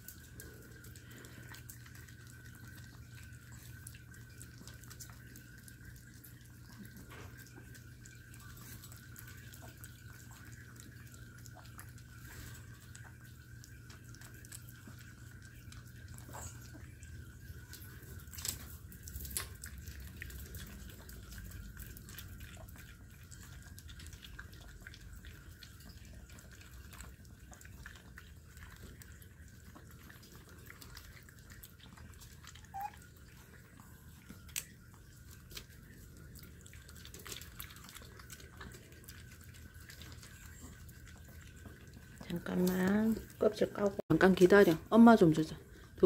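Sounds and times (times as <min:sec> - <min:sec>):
wet smacking and small clicks: 0:00.0 - 0:44.7
dogs licking and chewing fruit: 0:00.0 - 0:46.0.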